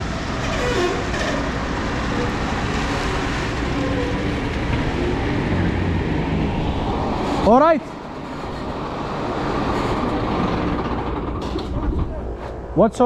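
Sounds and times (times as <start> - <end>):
heavy vehicle rumble: 0.0 - 12.8.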